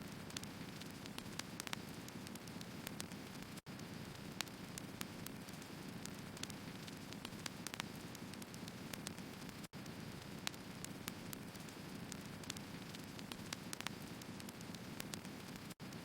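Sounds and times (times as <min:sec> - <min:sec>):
firewood burning with crackles: 0:00.0 - 0:16.0.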